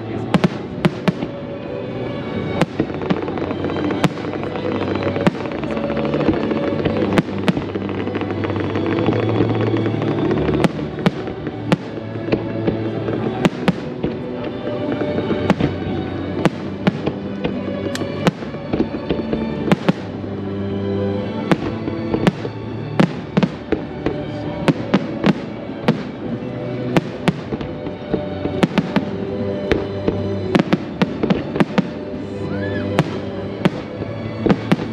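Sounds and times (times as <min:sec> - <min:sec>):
fireworks bangs and crackles: 0:00.0 - 0:34.9
music playing: 0:00.0 - 0:34.9.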